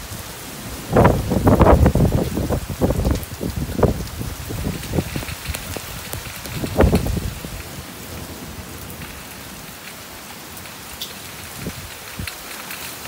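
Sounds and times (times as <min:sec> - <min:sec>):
heavy rain falling: 0:00.0 - 0:13.0
wind gust buffeting microphone: 0:00.1 - 0:09.9, 0:10.6 - 0:12.8.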